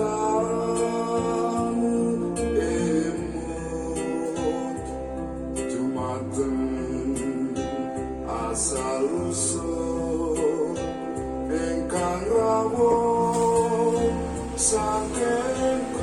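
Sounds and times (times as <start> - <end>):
plucked guitar and bass music: 0.0 - 16.0.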